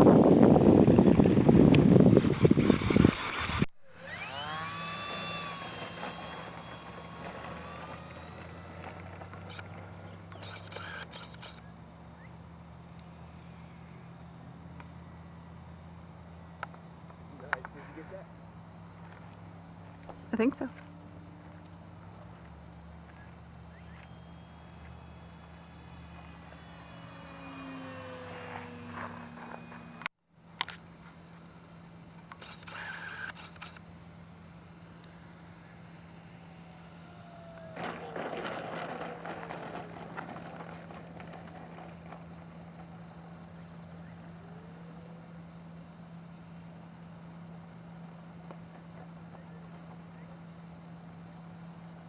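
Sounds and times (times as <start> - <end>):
model plane motor whining: 3.8 - 18.2, 19.0 - 30.8, 31.6 - 52.0.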